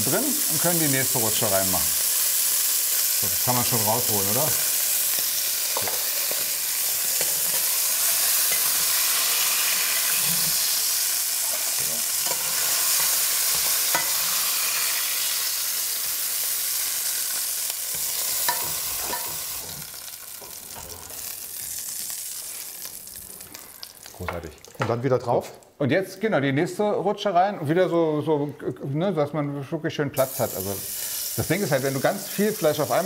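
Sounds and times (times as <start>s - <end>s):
meat sizzling in hot oil: 0.0s - 24.8s, 30.2s - 33.0s.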